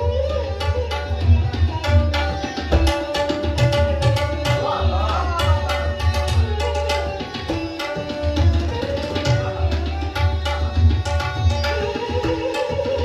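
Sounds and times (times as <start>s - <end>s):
bowed sarangi melody: 0.0s - 13.0s
tabla strokes: 0.0s - 13.0s.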